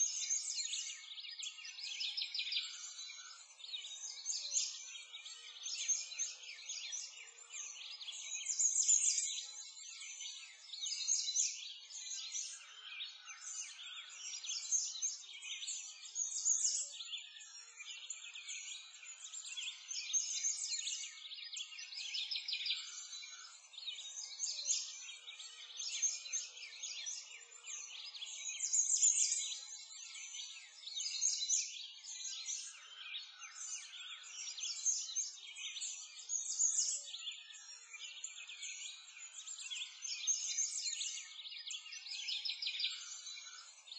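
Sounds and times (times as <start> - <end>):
small birds chirping and singing: 0.0 - 43.9.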